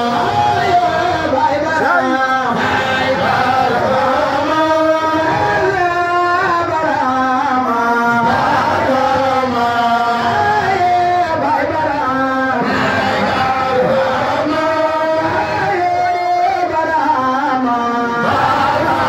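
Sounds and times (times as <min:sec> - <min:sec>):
person singing a chant: 0:00.0 - 0:19.0.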